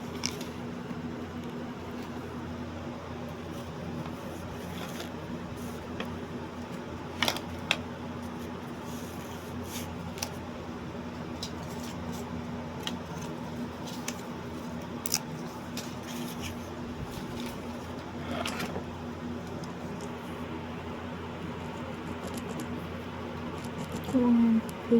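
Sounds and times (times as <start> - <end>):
low room hum: 0.0 - 24.9.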